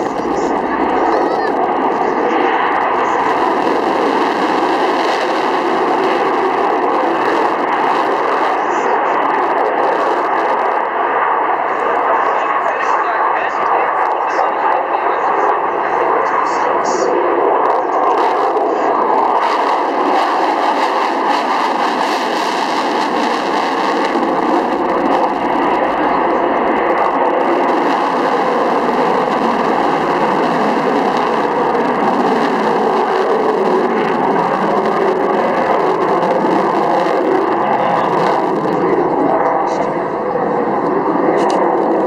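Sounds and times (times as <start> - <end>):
jet engine rushing overhead: 0.0 - 42.0.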